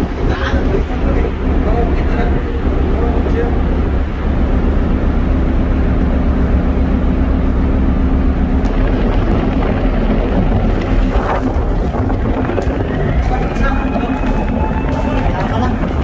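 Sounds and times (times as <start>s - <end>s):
ship machinery rumble: 0.0s - 16.0s.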